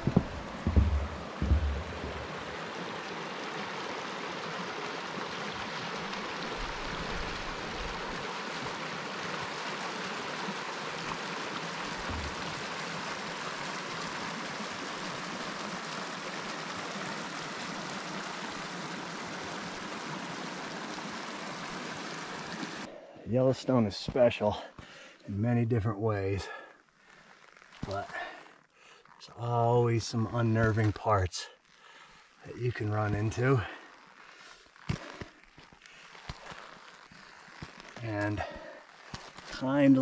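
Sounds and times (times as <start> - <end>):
creek running over rocks: 0.0 - 40.0.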